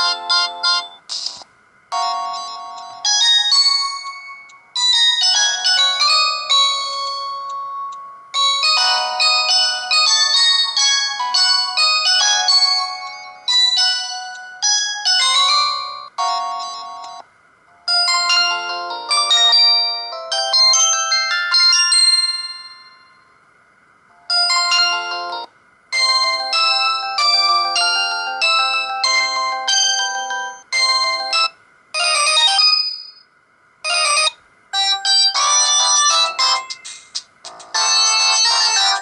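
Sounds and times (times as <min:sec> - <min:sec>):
polyphonic phone ringtones: 0:00.0 - 0:01.3, 0:01.9 - 0:17.2, 0:17.8 - 0:23.3, 0:24.2 - 0:33.2, 0:33.8 - 0:39.0.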